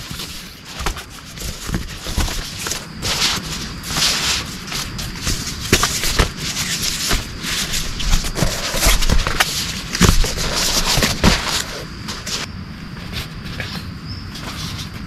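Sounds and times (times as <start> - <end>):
rustling in brush: 0.0 - 15.0.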